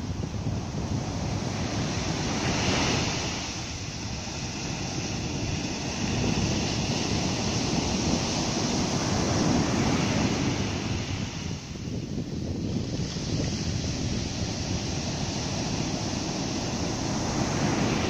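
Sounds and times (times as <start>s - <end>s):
sea waves breaking on beach: 0.0s - 18.0s
wind buffeting microphone: 0.0s - 18.0s.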